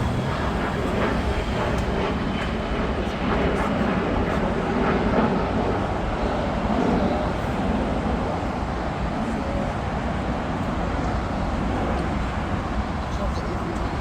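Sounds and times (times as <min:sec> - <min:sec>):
jet aircraft engines rumbling: 0:00.0 - 0:14.0.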